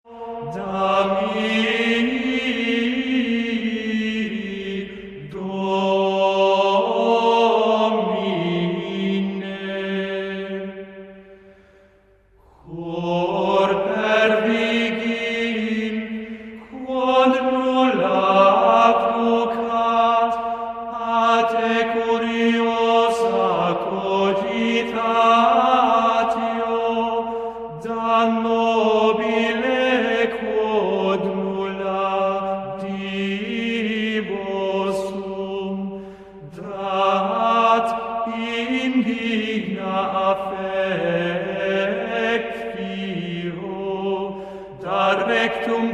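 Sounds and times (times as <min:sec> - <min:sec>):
chant with long held notes: 0:00.0 - 0:45.9.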